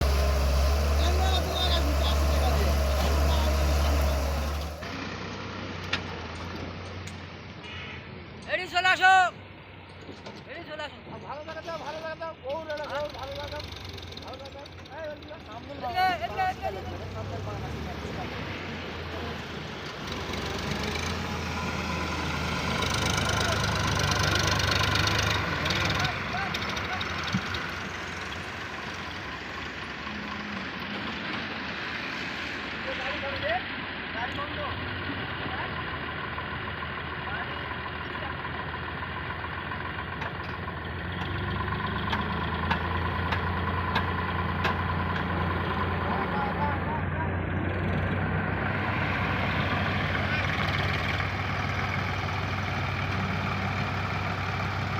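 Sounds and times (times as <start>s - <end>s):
heavy machinery diesel engine: 0.0s - 7.6s, 11.0s - 54.9s.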